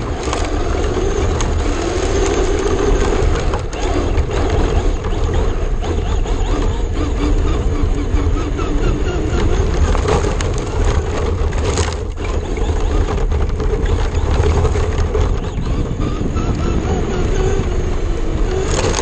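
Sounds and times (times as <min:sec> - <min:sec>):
gravel clicks: 0:00.0 - 0:19.0
rc car chassis rumble: 0:00.0 - 0:19.0
tyres and drivetrain rattling: 0:00.0 - 0:19.0
wind on camera: 0:00.0 - 0:19.0.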